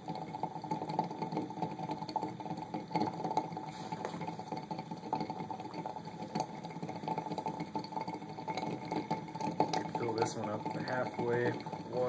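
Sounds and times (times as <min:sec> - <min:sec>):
water boiling and bubbling: 0:00.0 - 0:12.0.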